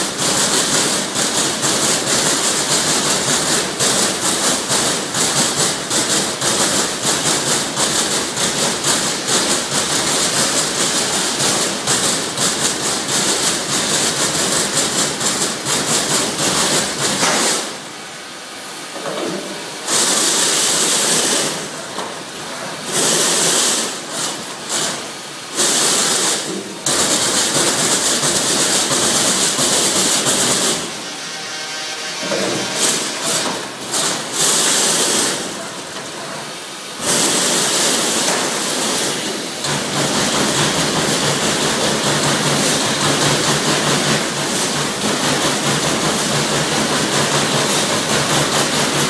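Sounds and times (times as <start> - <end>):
punching machine striking metal sheet: 0.0 - 17.8, 19.0 - 31.2, 32.2 - 49.0.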